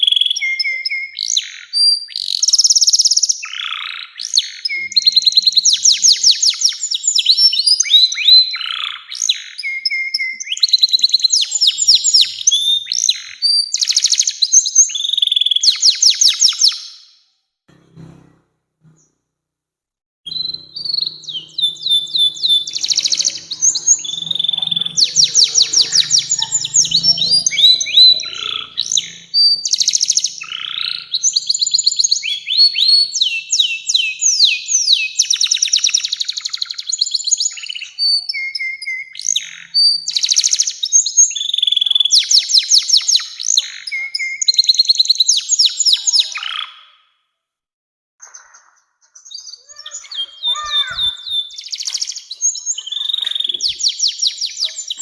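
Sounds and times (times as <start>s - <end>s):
canary singing trills: 0.0s - 17.0s, 20.3s - 47.1s, 48.2s - 55.0s.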